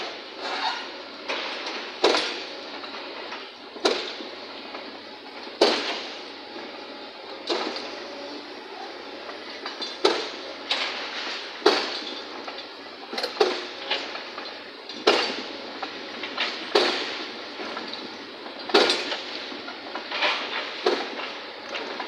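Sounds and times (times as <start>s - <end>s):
excavator metallic clanks and crashes: 0.0s - 22.0s
steady background noise: 0.0s - 22.0s.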